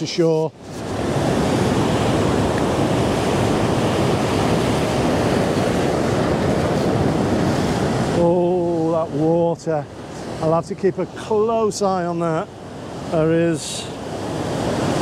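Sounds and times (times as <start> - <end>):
ocean surf breaking over boulders: 0.0 - 15.0.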